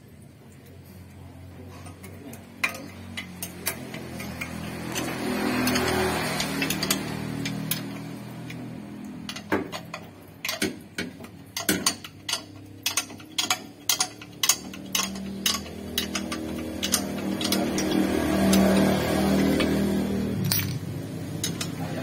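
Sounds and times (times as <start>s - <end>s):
metallic clicks and clinks: 1.7s - 22.0s.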